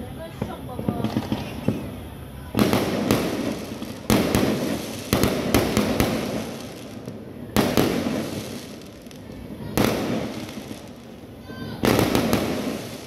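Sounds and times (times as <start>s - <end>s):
firework bangs: 0.1s - 13.0s.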